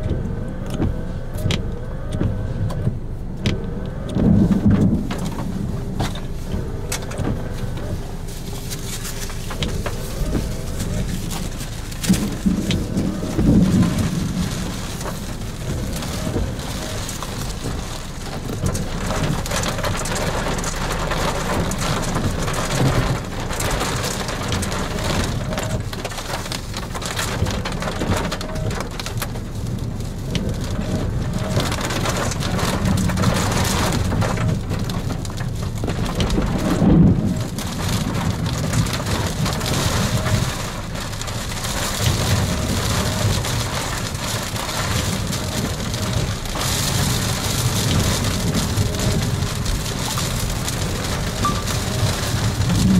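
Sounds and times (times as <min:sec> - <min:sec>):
heavy rain on a vehicle: 0:00.0 - 0:52.9
wind beating on a vehicle: 0:00.0 - 0:52.9.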